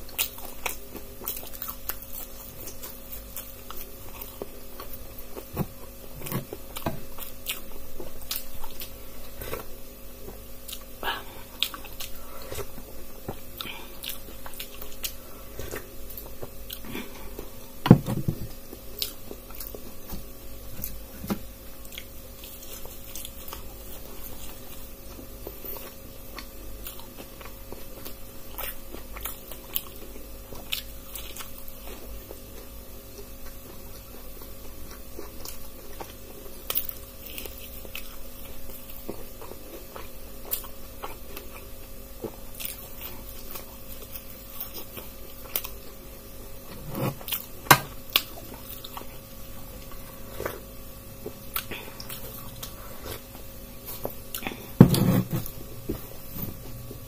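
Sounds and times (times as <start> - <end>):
chewing crunchy fritters: 0.0 - 57.0
faint steady hum: 0.0 - 57.0.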